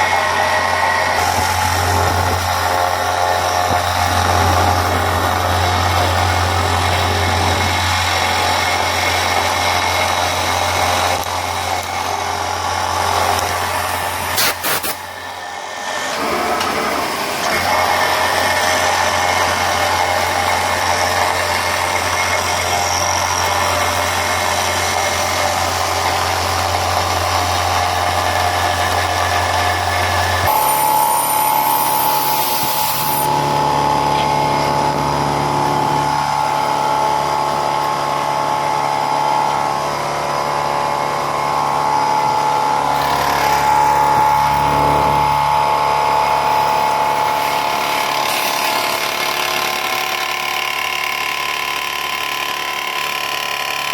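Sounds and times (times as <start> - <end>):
milling machine hum: 0.0 - 53.9.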